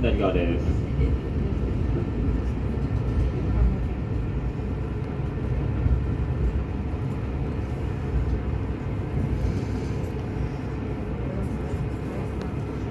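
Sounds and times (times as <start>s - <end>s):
diesel railcar rumble: 0.0s - 12.9s
train wheels on rails: 0.0s - 12.9s.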